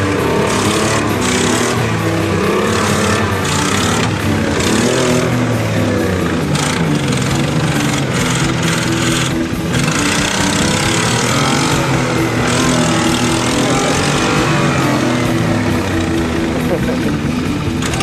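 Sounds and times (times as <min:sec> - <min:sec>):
pickup engine revving hard: 0:00.0 - 0:18.0
wheels spinning in loose dirt: 0:00.0 - 0:18.0.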